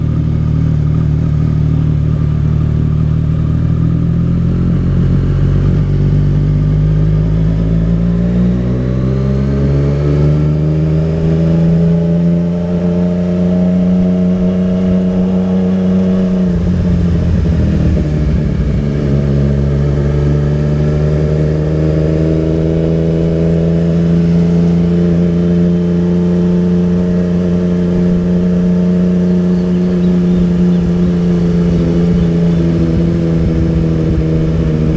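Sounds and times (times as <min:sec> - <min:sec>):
motorcycle engine under load: 0:00.0 - 0:34.9.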